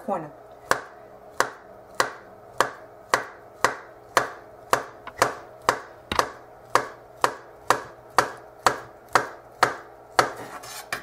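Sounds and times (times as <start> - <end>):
knife tapping on wooden cutting board: 0.7 - 10.3.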